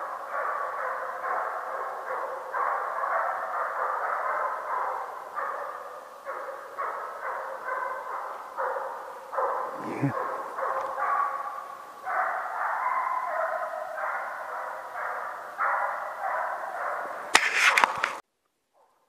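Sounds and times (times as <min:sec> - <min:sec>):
hound baying: 0:00.0 - 0:18.1.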